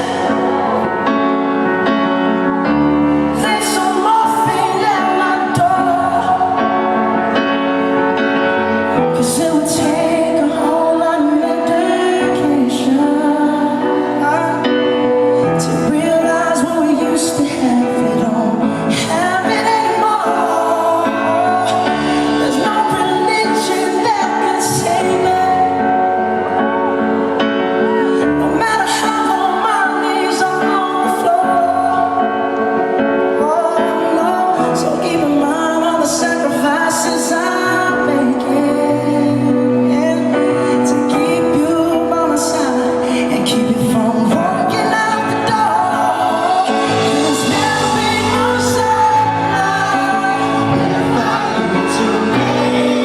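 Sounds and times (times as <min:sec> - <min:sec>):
band accompaniment: 0:00.0 - 0:53.0
man singing pop ballad: 0:00.0 - 0:53.0.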